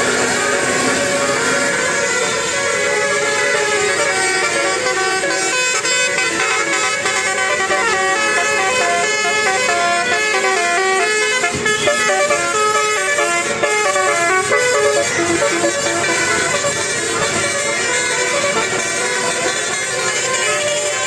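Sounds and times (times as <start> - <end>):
bus horn playing melody: 0.0 - 21.0.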